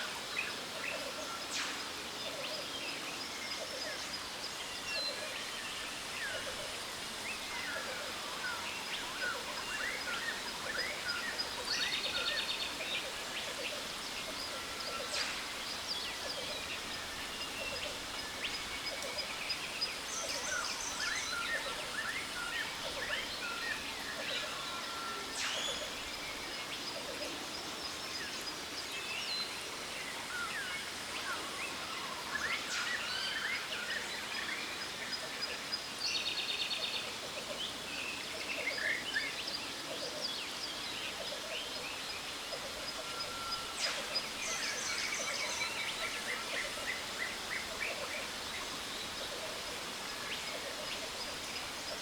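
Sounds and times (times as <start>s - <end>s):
waterfall hiss: 0.0s - 52.0s.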